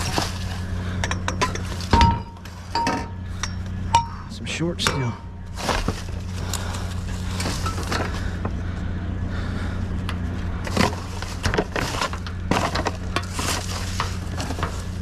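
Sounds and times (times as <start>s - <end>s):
hard objects clattering: 0.0s - 4.1s, 4.9s - 8.6s, 10.1s - 15.0s
low hum: 0.0s - 15.0s.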